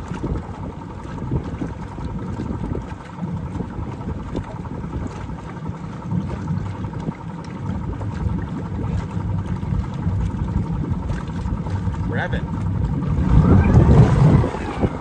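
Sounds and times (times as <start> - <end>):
boat engine running: 0.0 - 15.0
exhaust bubbling in water: 0.0 - 15.0.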